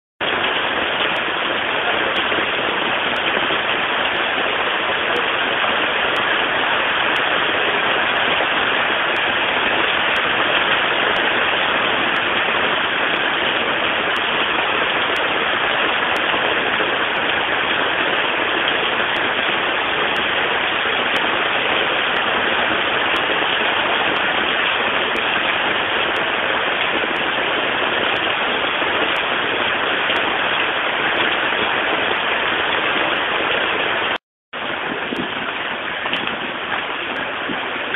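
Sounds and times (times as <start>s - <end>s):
heavy rain pouring on street: 0.2s - 37.9s.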